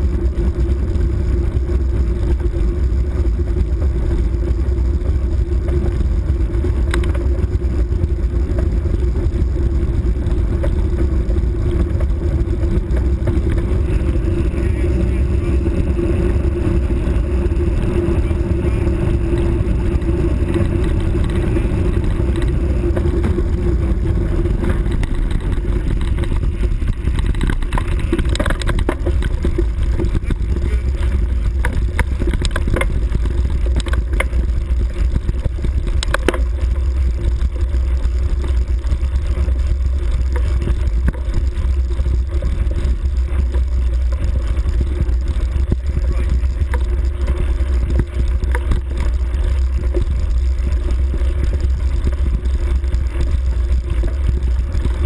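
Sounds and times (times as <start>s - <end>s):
rough rumbling noise: 0.0s - 55.0s
sharp clicks and rattles: 0.0s - 55.0s
wind buffeting microphone: 0.0s - 55.0s.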